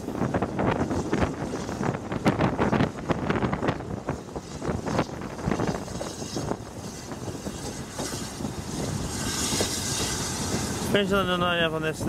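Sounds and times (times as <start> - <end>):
train rumble: 0.0 - 12.0
wind on microphone: 0.0 - 12.0.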